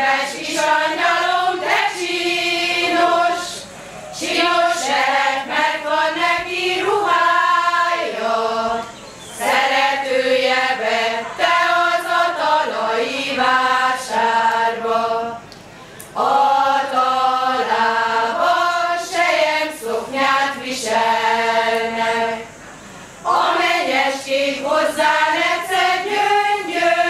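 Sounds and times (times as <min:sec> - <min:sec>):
women singing unaccompanied: 0:00.0 - 0:22.6, 0:23.2 - 0:27.0.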